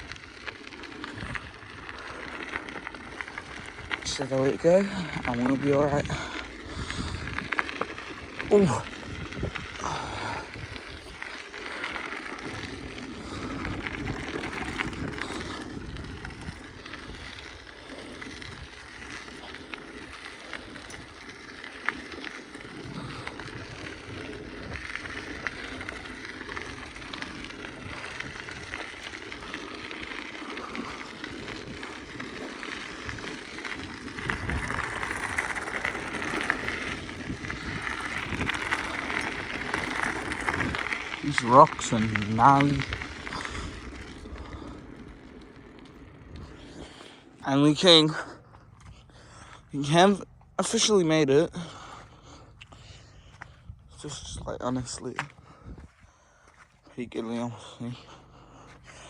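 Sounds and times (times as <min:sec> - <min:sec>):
wind buffeting microphone: 0:00.0 - 0:49.5, 0:51.7 - 0:56.2
bike tyre and frame noise: 0:00.0 - 0:59.0.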